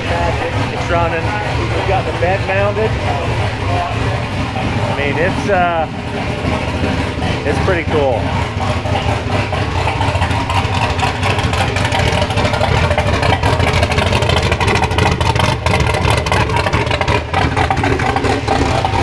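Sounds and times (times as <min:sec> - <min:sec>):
truck engine running choppy: 0:00.0 - 0:19.0.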